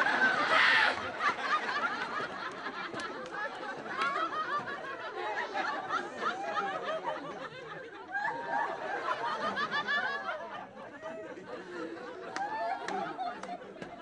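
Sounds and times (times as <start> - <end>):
audience laughing: 0.0 - 14.0.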